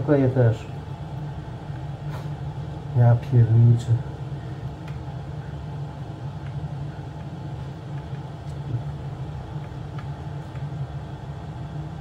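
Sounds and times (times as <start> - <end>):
hot air station blowing: 0.0 - 12.0.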